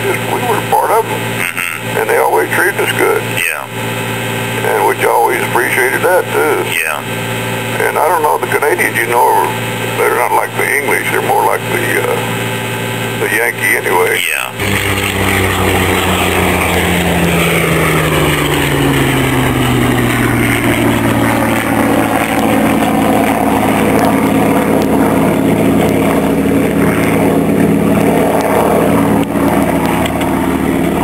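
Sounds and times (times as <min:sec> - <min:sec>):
propeller aircraft engine running: 0:00.0 - 0:31.0.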